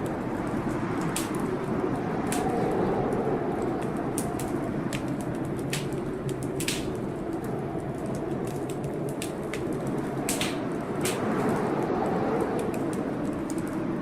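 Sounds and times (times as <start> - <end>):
low rumble of storm: 0.0 - 14.0
wood fire crackling: 0.0 - 14.0.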